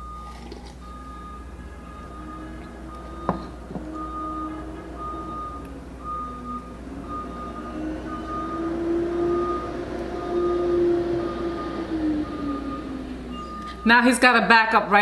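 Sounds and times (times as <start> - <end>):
truck engine running: 0.0 - 14.2
truck reversing alarm beeping: 0.0 - 14.9.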